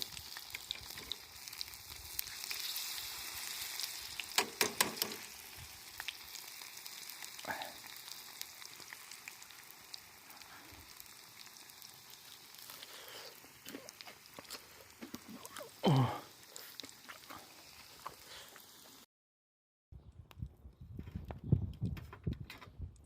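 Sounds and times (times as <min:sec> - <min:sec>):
food deep-frying in oil: 0:00.0 - 0:19.1.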